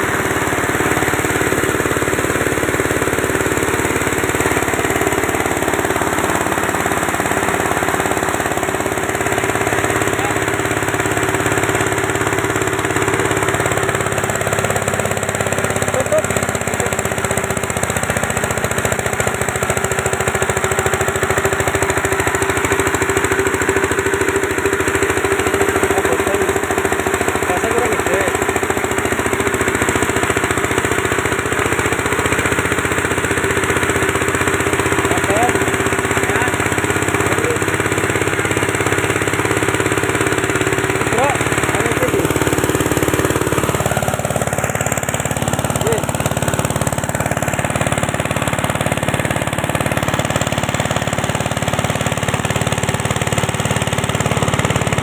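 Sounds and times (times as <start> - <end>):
diesel engine running: 0.0 - 55.0
grinder grinding material: 0.0 - 55.0.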